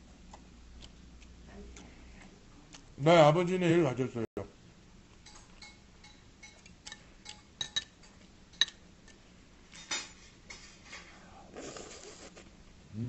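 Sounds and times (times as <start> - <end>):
soft eating noises: 0.0 - 3.9, 4.6 - 13.0.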